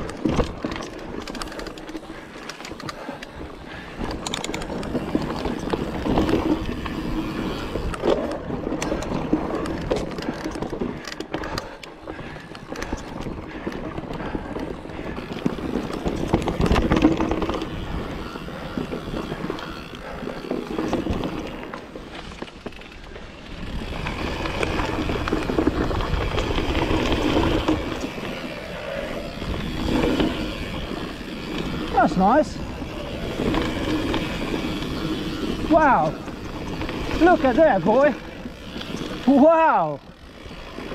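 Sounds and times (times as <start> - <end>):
bike rattling over bumps: 0.0 - 40.9
bike tyres on dirt: 0.0 - 40.9.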